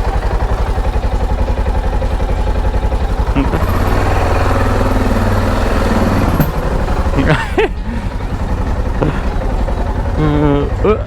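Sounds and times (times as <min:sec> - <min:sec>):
motorcycle engine at low revs: 0:00.0 - 0:11.0
tyres over cobbled pavement: 0:00.0 - 0:11.0.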